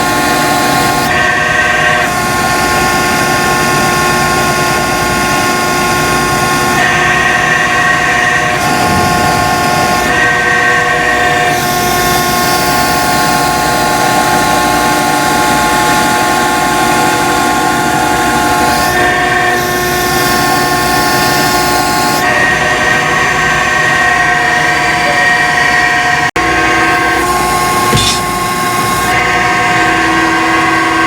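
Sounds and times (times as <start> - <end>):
heavy engine droning whine: 0.0 - 31.0.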